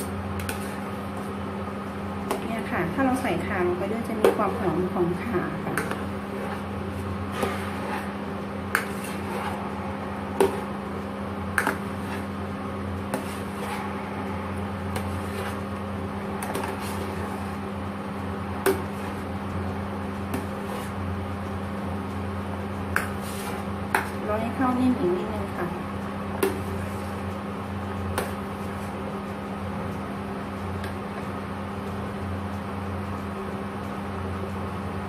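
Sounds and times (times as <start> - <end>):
electric cooktop hum: 0.0 - 35.0.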